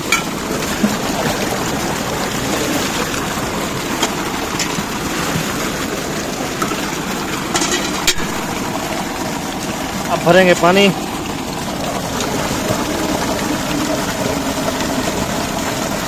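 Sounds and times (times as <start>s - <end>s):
water gushing into tank: 0.0s - 16.0s.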